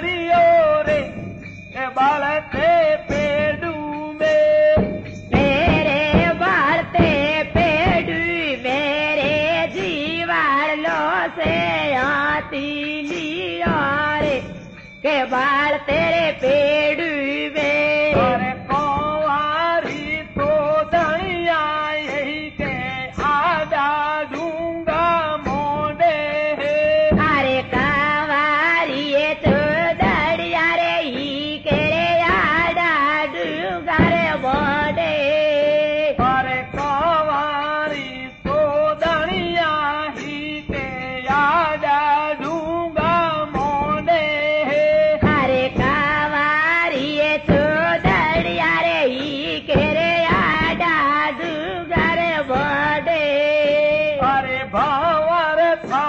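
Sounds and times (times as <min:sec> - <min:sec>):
instrumental accompaniment: 0:00.0 - 0:56.0
person singing ornamented notes: 0:00.0 - 0:56.0
sharp drum strokes: 0:00.0 - 0:56.0.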